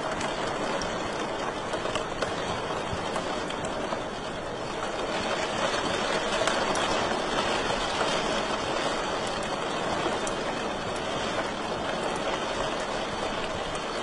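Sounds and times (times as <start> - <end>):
faint fire crackles and pops: 0.0 - 14.0.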